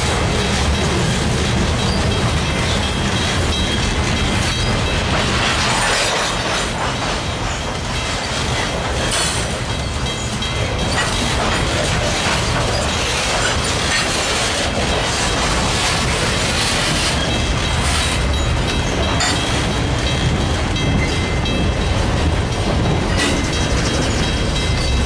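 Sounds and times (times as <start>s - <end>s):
steel wheels rumbling on rails: 0.0s - 25.0s.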